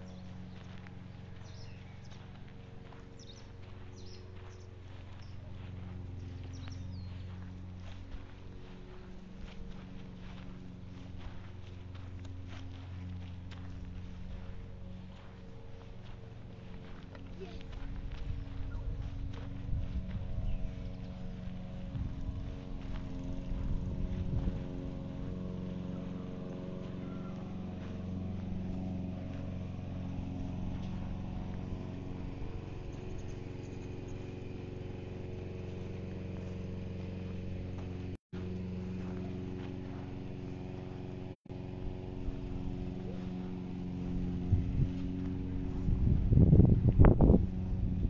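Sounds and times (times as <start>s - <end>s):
steady machine hum: 0.0s - 48.0s.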